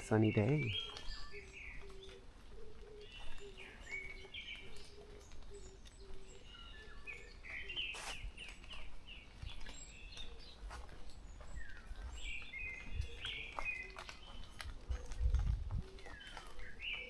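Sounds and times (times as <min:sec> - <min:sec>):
forest birds singing: 0:00.0 - 0:17.0.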